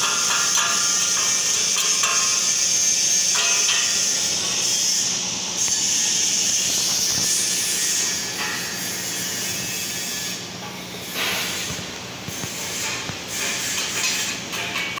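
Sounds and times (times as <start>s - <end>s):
hiss: 0.0s - 14.9s.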